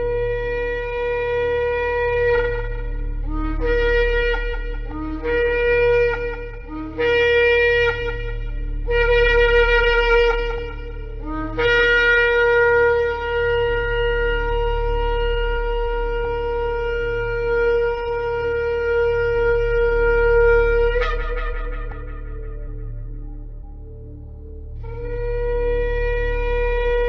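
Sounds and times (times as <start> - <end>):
ram's horn blasts: 0.0 - 27.0.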